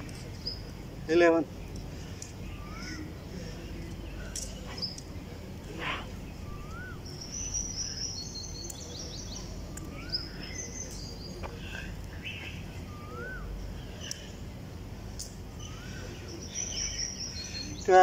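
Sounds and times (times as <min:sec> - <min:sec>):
birds twittering: 0:00.0 - 0:18.0
low background noise: 0:00.0 - 0:18.0.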